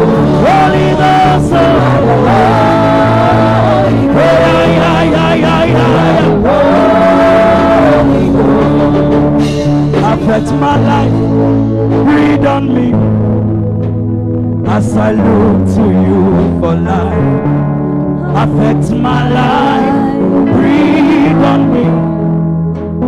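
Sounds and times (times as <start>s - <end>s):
bass: 0.0s - 23.0s
sustained keyboard chords: 0.0s - 23.0s.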